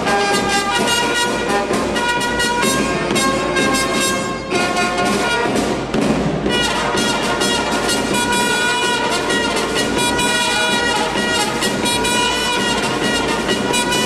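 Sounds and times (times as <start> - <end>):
brass ensemble playing chords: 0.0 - 14.0.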